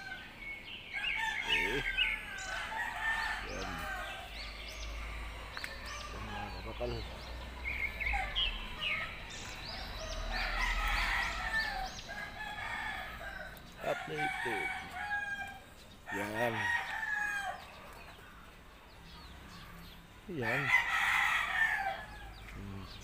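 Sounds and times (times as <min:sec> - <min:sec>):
rooster crowing: 0:00.0 - 0:00.3, 0:01.0 - 0:17.9, 0:20.4 - 0:22.5
chickens clucking: 0:01.2 - 0:23.0.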